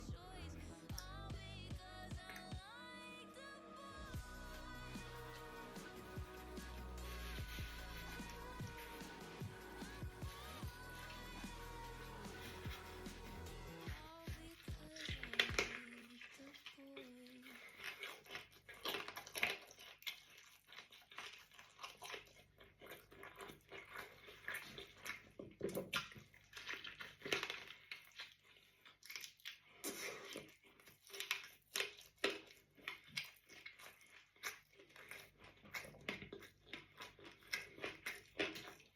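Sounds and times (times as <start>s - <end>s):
person chewing food: 4.1s - 38.9s.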